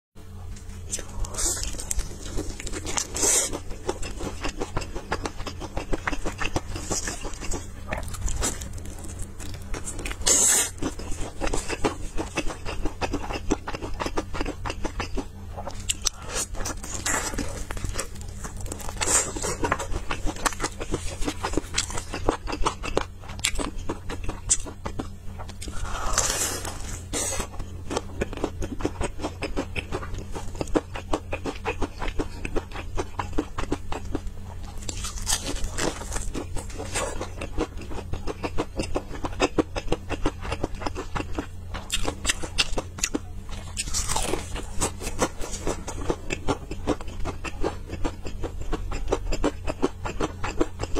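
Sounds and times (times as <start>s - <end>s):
chewing crunchy fried chicken: 0.2s - 50.9s.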